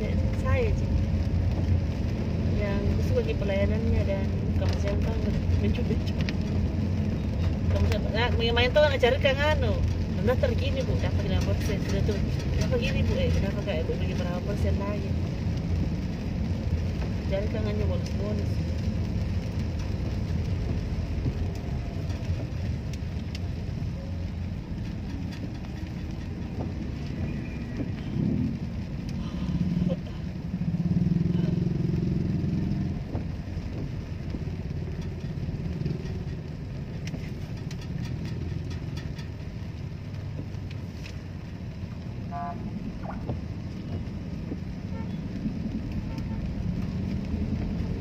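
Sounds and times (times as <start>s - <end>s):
traffic rumble from inside car: 0.0s - 48.0s.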